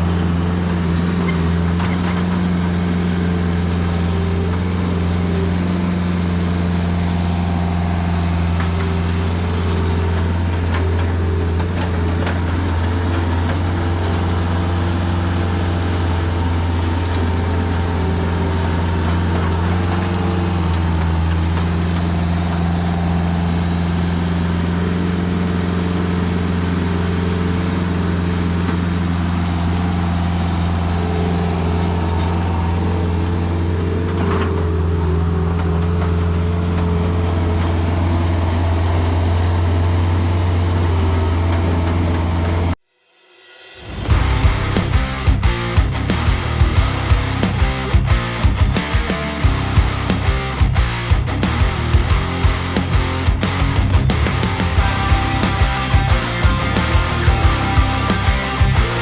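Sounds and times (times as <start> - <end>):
diesel engine running: 0.0 - 42.8, 43.8 - 59.0.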